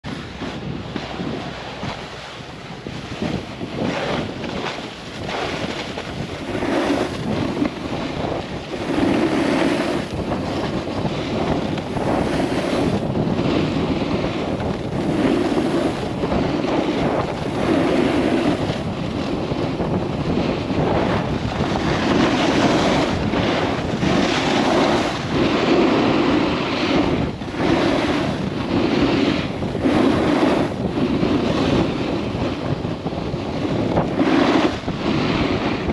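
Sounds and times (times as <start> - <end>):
wind rushing over microphone: 0.0 - 35.9
skis sliding on snow: 0.1 - 35.9.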